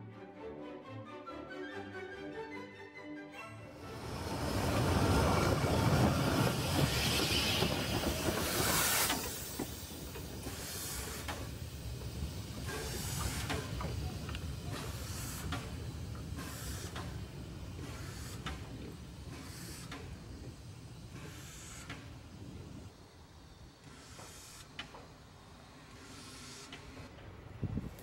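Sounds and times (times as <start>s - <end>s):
steam locomotive rumbling: 3.8s - 28.0s
loud steam hiss: 3.9s - 28.0s.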